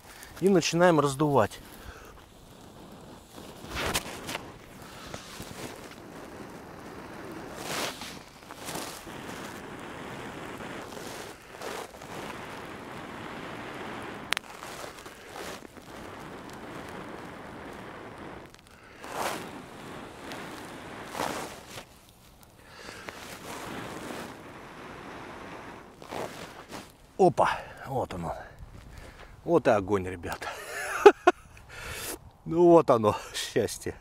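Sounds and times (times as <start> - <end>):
person blowing into dry grass: 1.6 - 27.8, 30.5 - 32.2.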